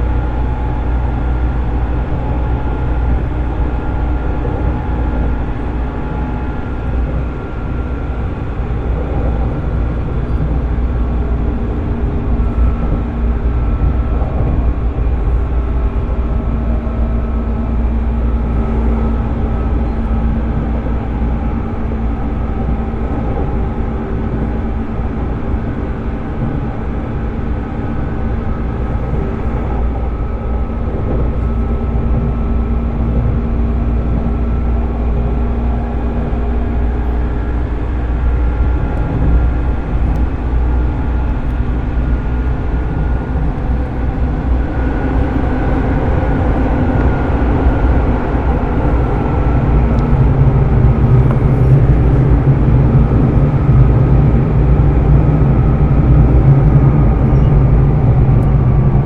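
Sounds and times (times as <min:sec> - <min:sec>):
electric train motor whine: 0:00.0 - 0:59.0
wheels rumbling on rails: 0:00.0 - 0:59.0.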